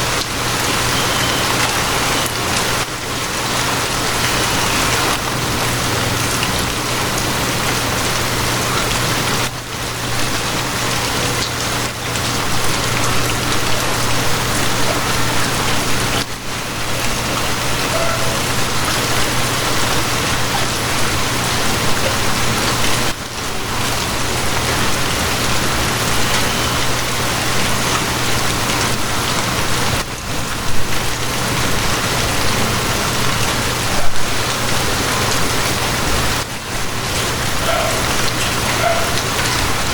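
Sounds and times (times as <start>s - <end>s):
rain spatters: 0.0s - 39.9s
steady rain: 0.0s - 39.9s.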